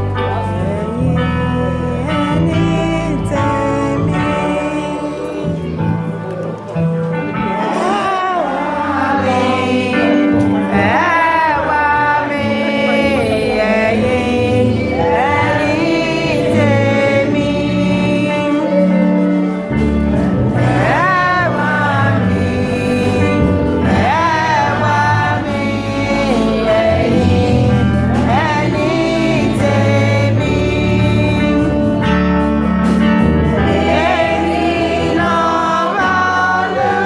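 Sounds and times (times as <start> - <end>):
choir singing gospel music: 0.0 - 37.0
low instrumental accompaniment: 0.0 - 37.0.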